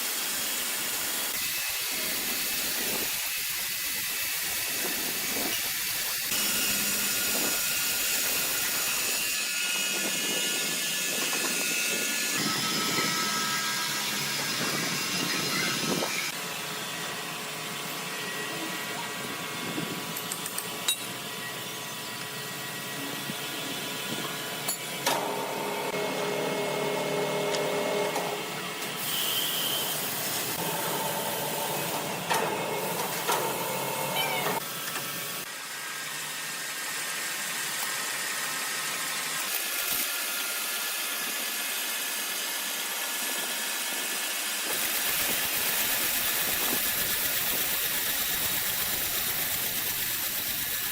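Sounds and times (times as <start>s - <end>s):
machine whine: 0.2s - 35.6s, 44.6s - 50.9s
wood-processing machinery running: 3.7s - 50.9s.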